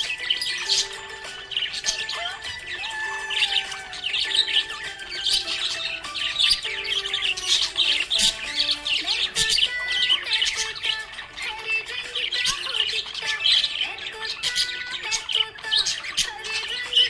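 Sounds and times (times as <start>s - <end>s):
background music with held notes: 0.0s - 17.0s
budgerigar chirping: 0.0s - 17.0s.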